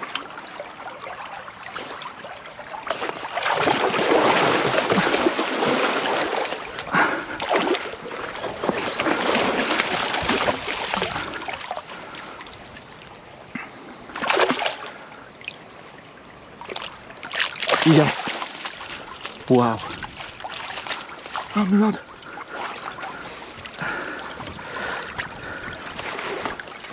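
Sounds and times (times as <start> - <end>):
fish splashing in a stream: 0.0 - 12.4, 14.1 - 15.6, 16.6 - 26.9.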